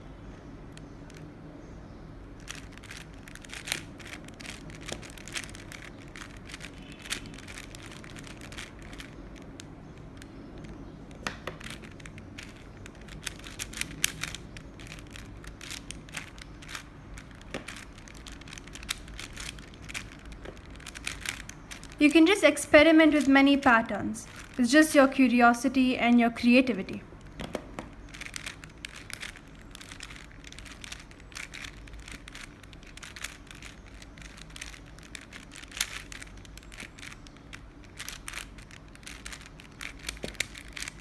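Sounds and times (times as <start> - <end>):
plastic puzzle cube clicking: 0.6 - 1.3, 2.2 - 25.1, 26.6 - 41.0
sharp plastic snaps: 2.4 - 22.5, 27.2 - 41.0.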